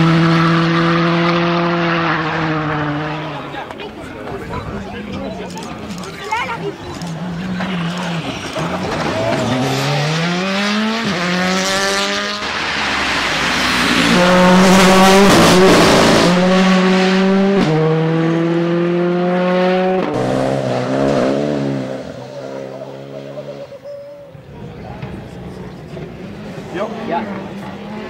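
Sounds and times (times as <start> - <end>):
rally car engine upshifting: 0.0 - 23.8.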